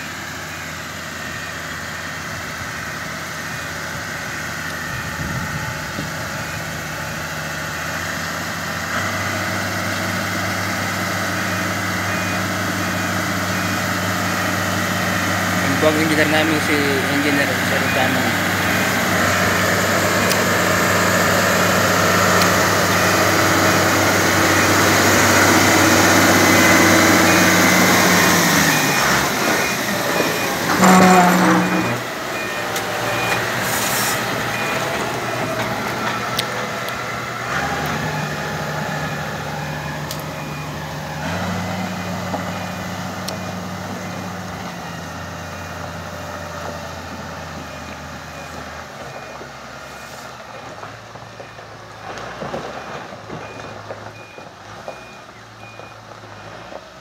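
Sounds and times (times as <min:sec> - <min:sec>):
diesel engine running: 0:00.0 - 0:57.0
reversing alarm beeping: 0:00.2 - 0:08.0, 0:10.0 - 0:36.5, 0:37.8 - 0:50.5, 0:52.7 - 0:56.7.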